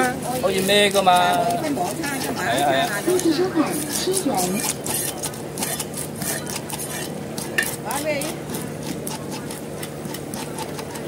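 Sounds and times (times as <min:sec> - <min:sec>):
fish scaler scraping scales: 0:00.0 - 0:11.0
steady low hum: 0:00.0 - 0:11.0.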